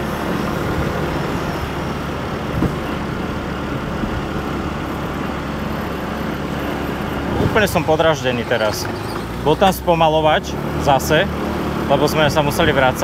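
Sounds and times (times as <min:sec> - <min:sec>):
road and wind noise: 0:00.0 - 0:13.0
scooter engine hum: 0:00.0 - 0:13.0.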